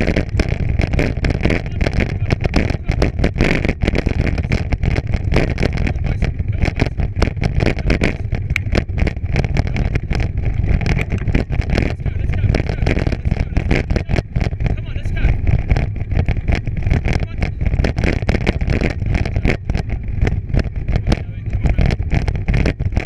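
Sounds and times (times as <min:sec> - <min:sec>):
bike rattling on rough trail: 0:00.0 - 0:23.0
wind buffeting microphone: 0:00.0 - 0:23.0.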